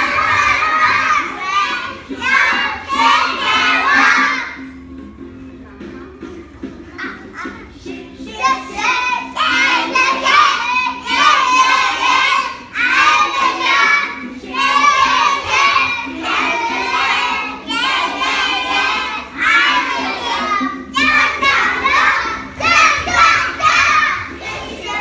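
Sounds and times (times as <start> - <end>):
children singing together: 0.0 - 4.7, 7.0 - 25.0
backing music track: 0.0 - 25.0.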